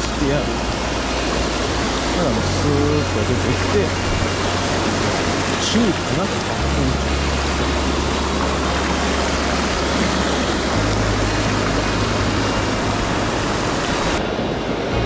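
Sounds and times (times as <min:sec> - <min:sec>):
held bass notes music: 0:00.0 - 0:15.0
mountain stream rushing: 0:00.0 - 0:15.0.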